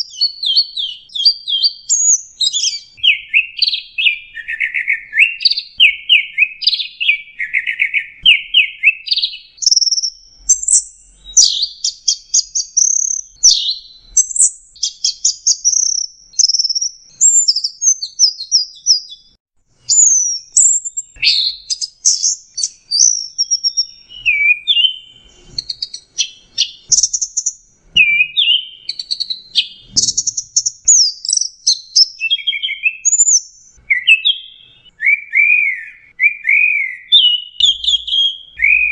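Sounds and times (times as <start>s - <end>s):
shrike singing trills and whistles: 0.0s - 38.9s.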